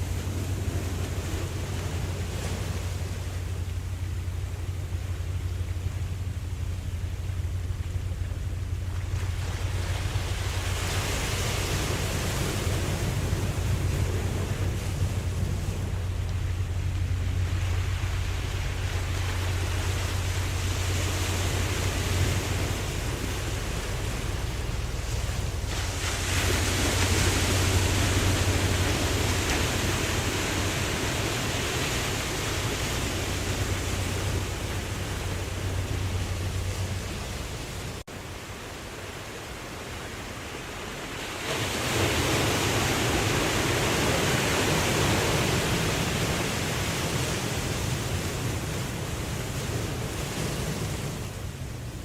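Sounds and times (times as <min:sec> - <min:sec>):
ocean surf washing: 0:00.0 - 0:52.0.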